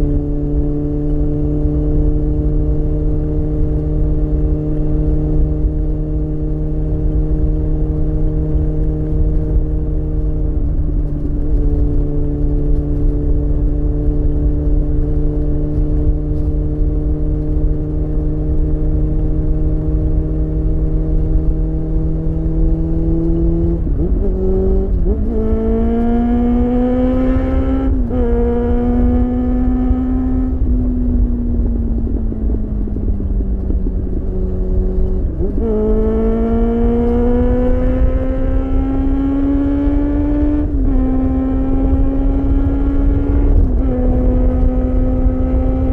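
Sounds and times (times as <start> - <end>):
motorcycle engine revving: 0.0 - 45.9
wind rush on microphone: 0.0 - 45.9.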